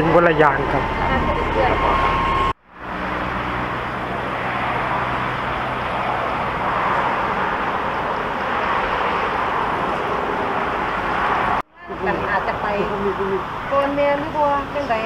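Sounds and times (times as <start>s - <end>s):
highway traffic hum: 0.0s - 15.0s.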